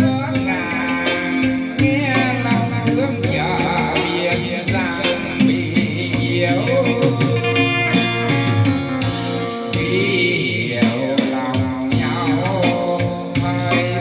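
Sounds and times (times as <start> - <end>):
bass: 0.0 - 14.0
song with singing voice: 0.0 - 14.0.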